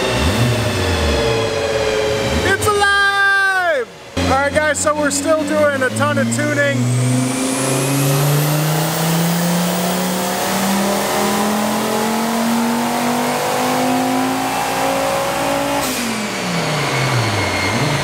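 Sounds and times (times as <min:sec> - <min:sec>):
turbocharged engine revving: 0:00.0 - 0:03.1, 0:03.9 - 0:18.0.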